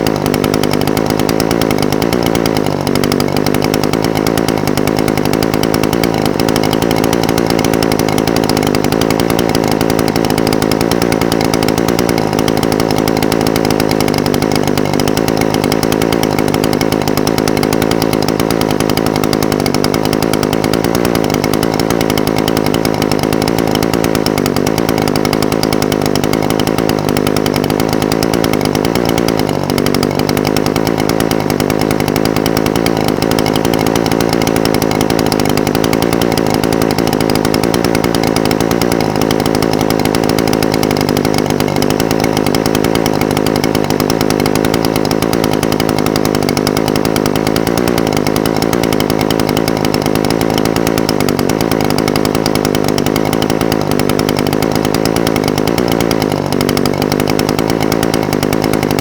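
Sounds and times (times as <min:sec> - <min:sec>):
brush cutter engine idling: 0:00.0 - 0:59.0.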